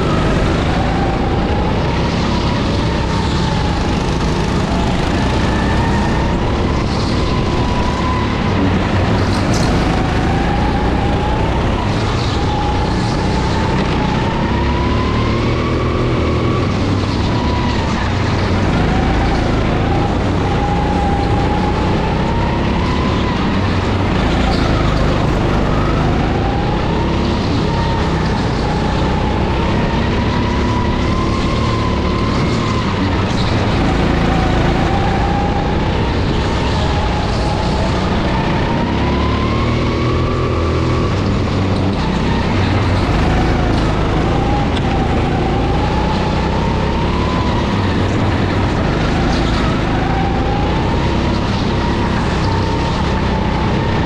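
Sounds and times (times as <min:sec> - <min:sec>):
go-kart engine running: 0:00.0 - 0:54.0.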